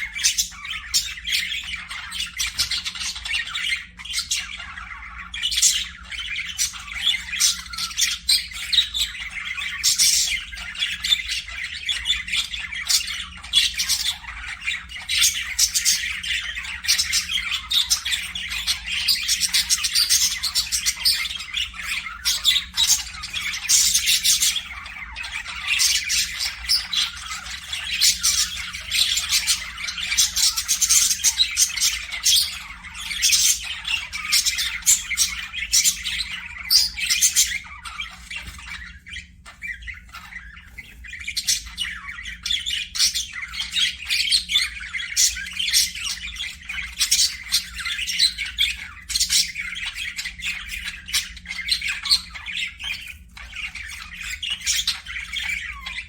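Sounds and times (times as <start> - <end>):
parakeet squawks: 0.0 - 56.0
parakeets chattering: 0.0 - 56.0.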